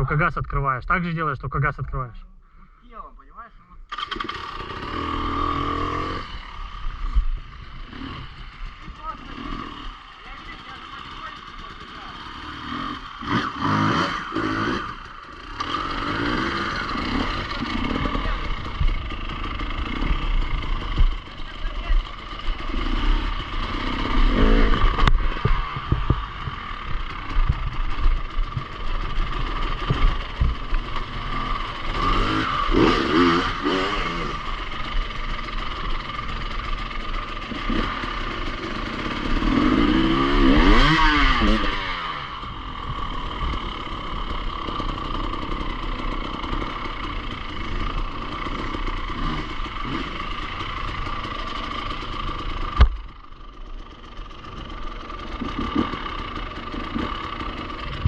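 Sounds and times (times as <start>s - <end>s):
motorcycle engine revving: 3.8s - 58.0s.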